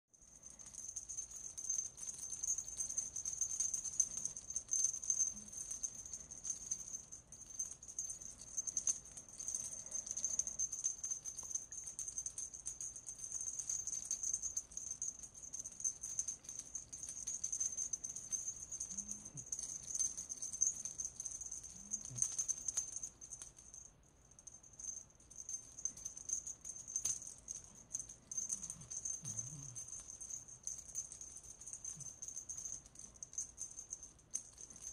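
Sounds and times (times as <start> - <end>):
jingle bell jingling: 0.2 - 34.9.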